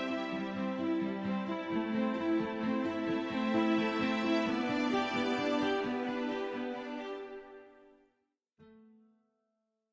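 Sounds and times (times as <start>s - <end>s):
background music chord: 0.0s - 8.0s.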